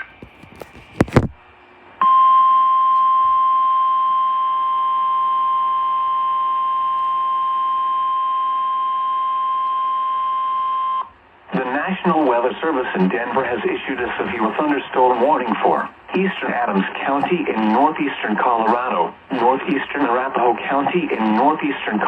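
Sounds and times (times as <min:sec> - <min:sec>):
steady warning alarm tone: 0:02.0 - 0:22.0.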